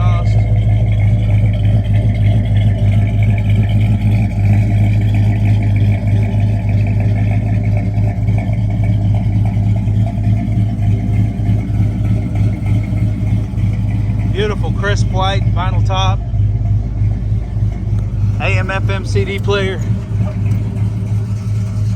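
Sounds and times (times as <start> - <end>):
car engine rumbling: 0.0 - 21.9.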